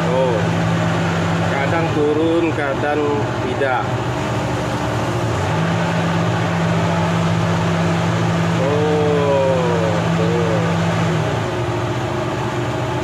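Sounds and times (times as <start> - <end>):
excavator engine running: 0.0 - 13.0
hydraulics working: 0.0 - 13.0
steady low hum: 0.0 - 13.0.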